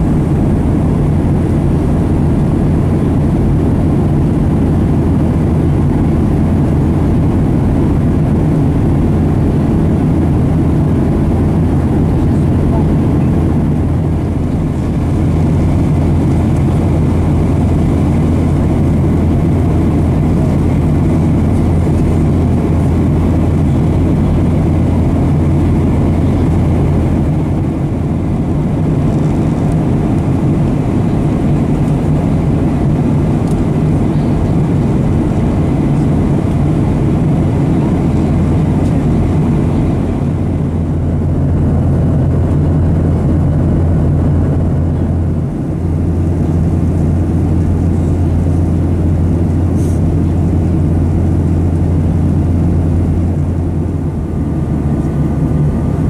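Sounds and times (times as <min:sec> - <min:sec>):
air rushing along fuselage: 0:00.0 - 0:56.0
jet engines droning: 0:00.0 - 0:56.0.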